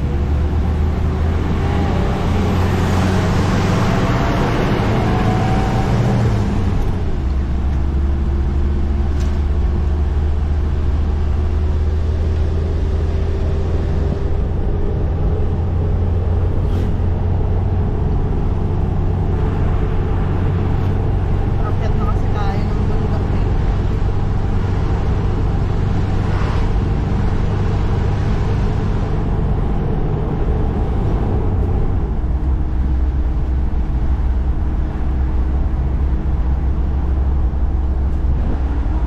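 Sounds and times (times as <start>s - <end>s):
vehicle engine and road noise: 0.0s - 39.0s.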